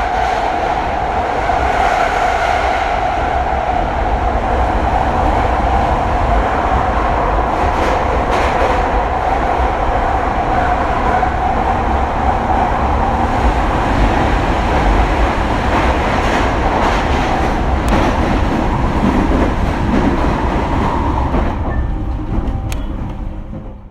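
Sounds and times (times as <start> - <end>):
train rumbling in tunnel: 0.0 - 23.9.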